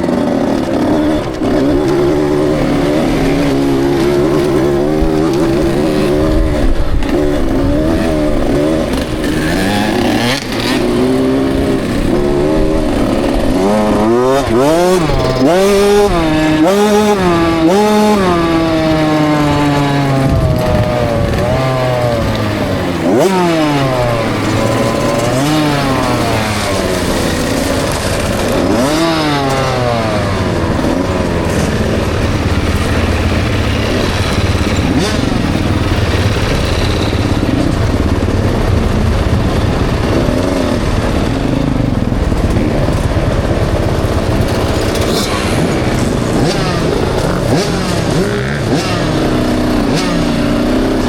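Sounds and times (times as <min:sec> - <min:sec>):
motocross bike engine revving: 0:00.0 - 0:51.0.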